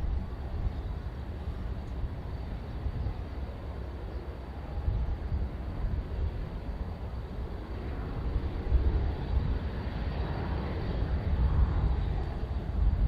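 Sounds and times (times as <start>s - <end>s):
distant jet airliner engines: 0.0s - 13.0s
wind buffeting microphone: 0.0s - 13.0s.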